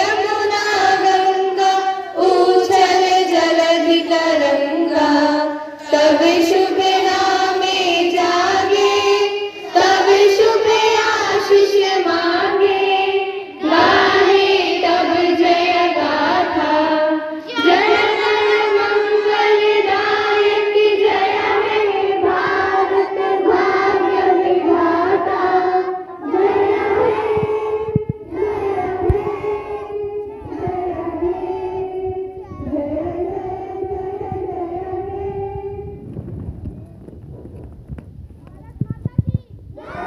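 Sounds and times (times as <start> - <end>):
children singing: 0.0 - 35.1.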